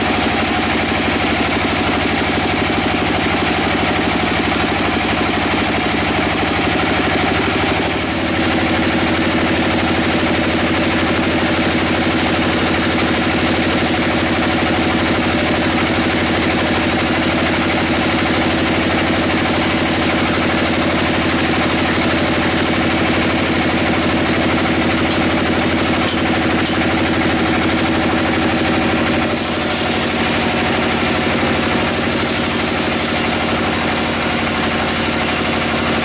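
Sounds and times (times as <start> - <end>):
sawmill saw droning: 0.0 - 10.1, 14.0 - 36.0.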